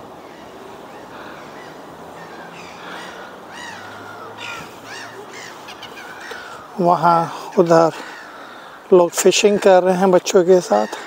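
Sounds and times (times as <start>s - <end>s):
birds calling: 0.0s - 11.0s
outdoor background noise: 0.0s - 11.0s.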